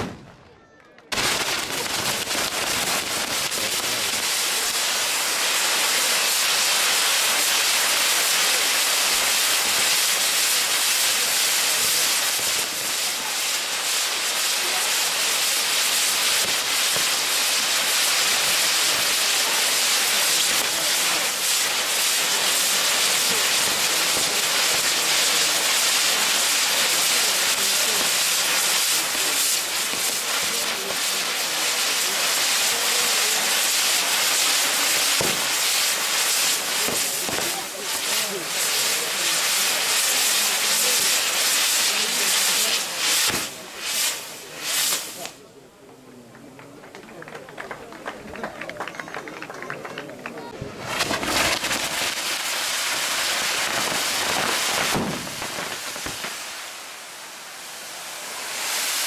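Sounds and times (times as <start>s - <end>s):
fireworks fountains hissing: 1.0s - 59.0s.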